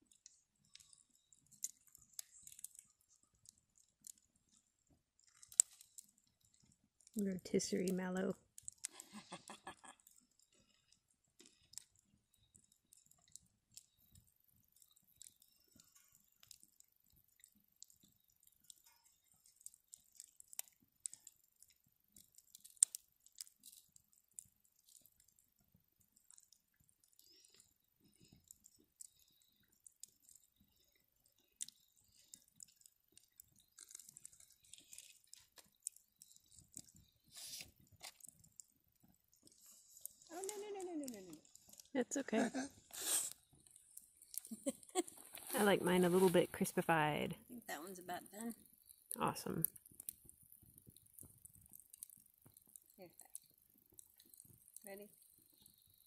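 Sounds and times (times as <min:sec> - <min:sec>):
burning wood popping: 0:00.0 - 0:56.0
campfire crackling: 0:00.0 - 0:56.0.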